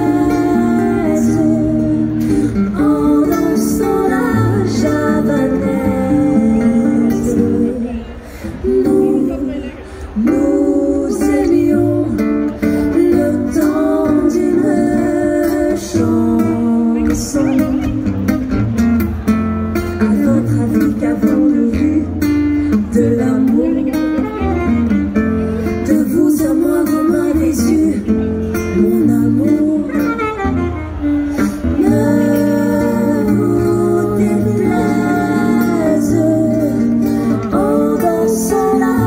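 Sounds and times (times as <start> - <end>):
person singing: 0.0 - 18.2, 19.9 - 24.7, 25.6 - 39.0
acoustic guitar: 0.0 - 39.0.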